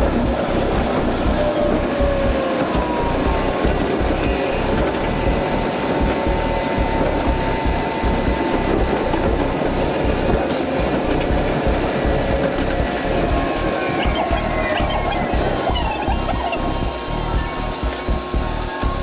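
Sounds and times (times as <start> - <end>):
thin motor whine: 0.0 - 19.0
train running rumble: 0.0 - 19.0.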